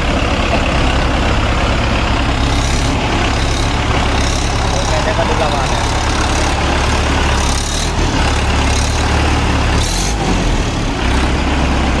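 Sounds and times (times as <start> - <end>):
tractor diesel engine rumbling: 0.0 - 12.0.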